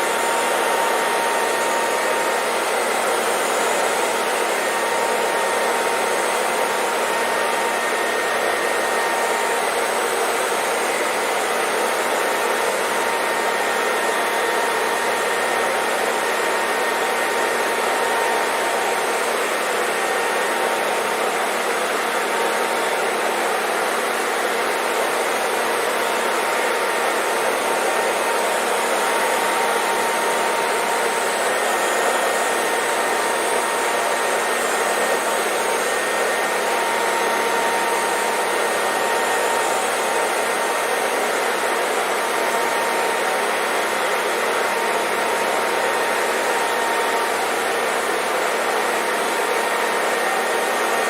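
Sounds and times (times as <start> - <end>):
hair dryer running: 0.0 - 51.0.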